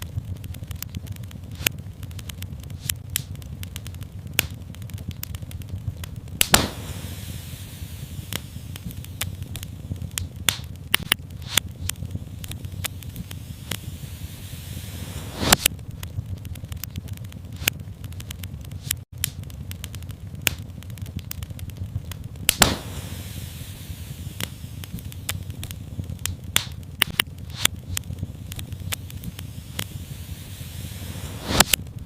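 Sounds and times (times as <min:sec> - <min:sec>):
low fire rumble: 0:00.0 - 0:32.0
sharp pops of fire: 0:00.0 - 0:32.0
steady hiss: 0:00.0 - 0:32.0
wood fire crackling: 0:00.0 - 0:32.0.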